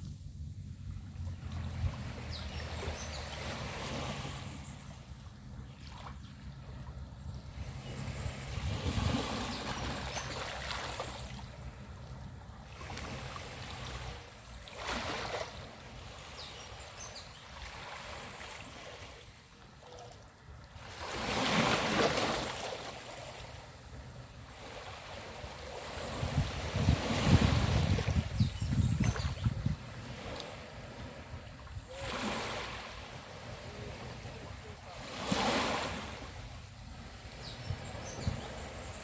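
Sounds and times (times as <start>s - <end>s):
small waves breaking on a beach: 0.0s - 39.0s.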